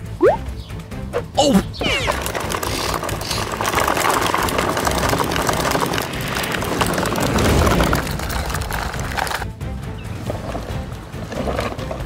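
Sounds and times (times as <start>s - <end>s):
plastic wheels crunching on gravel: 1.4s - 12.0s.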